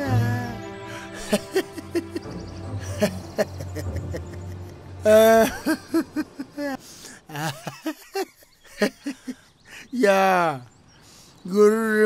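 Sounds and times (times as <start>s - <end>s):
men laughing: 0.0s - 10.0s.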